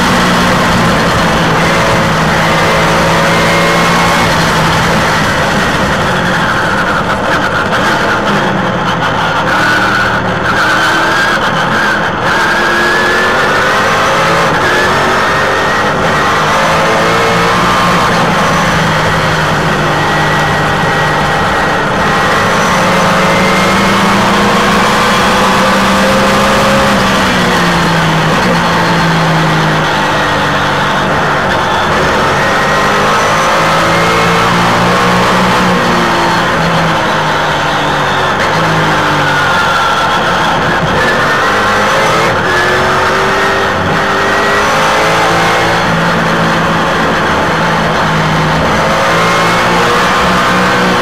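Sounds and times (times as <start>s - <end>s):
race car engine: 0.0s - 51.0s.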